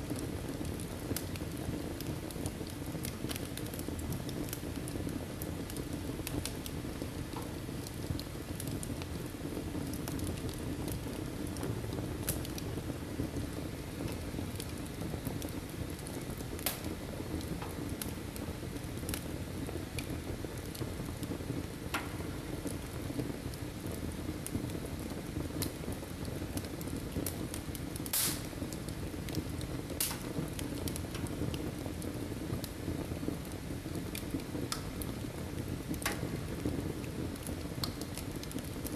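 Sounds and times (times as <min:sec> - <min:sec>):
fire crackling and popping: 0:00.0 - 0:38.9
low rush of flames: 0:00.0 - 0:38.9.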